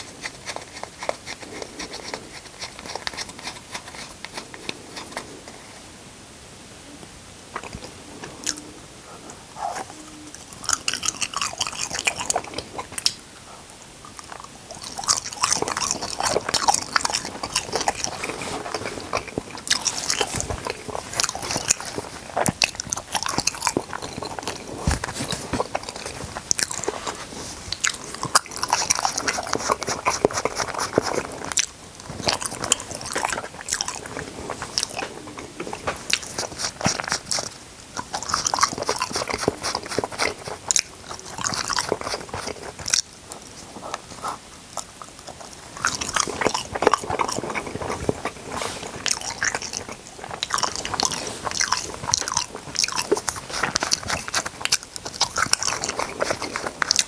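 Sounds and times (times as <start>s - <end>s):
crunching and chewing: 0.0s - 5.7s, 7.5s - 57.0s.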